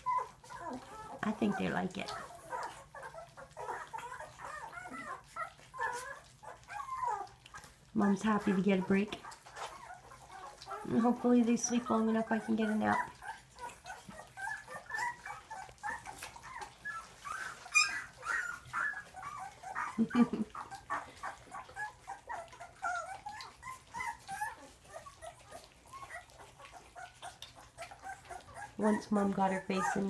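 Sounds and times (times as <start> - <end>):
puppies squeaking and whimpering: 0.0 - 30.0
wet lapping clicks: 0.0 - 30.0.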